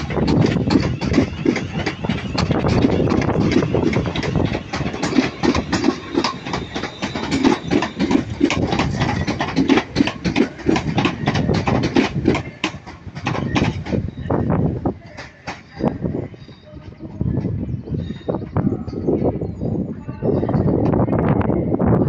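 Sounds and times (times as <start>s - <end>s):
wheels clattering over track: 0.0s - 18.2s
train rumble: 0.0s - 22.0s.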